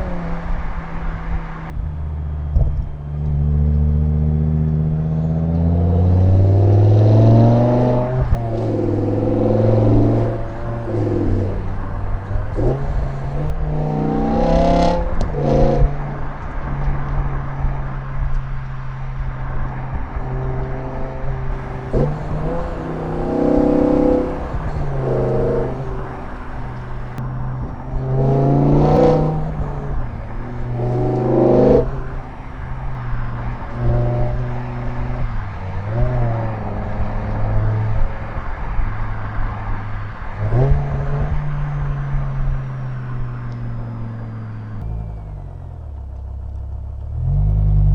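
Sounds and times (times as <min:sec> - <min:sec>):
car engine revving: 0:00.0 - 0:17.0, 0:19.1 - 0:47.9.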